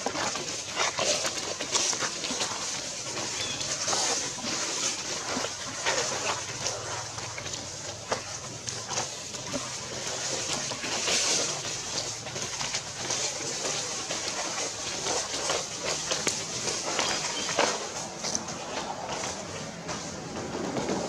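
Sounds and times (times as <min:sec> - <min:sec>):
dry leaves crackling underfoot: 0:00.0 - 0:21.0.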